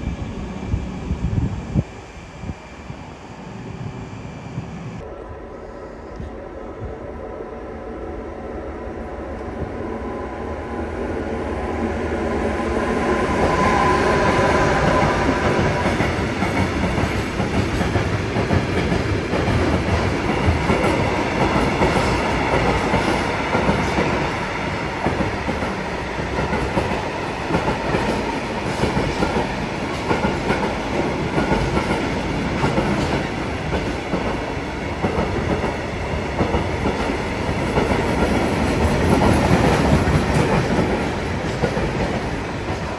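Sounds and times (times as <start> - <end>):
train passing: 0.0 - 42.9.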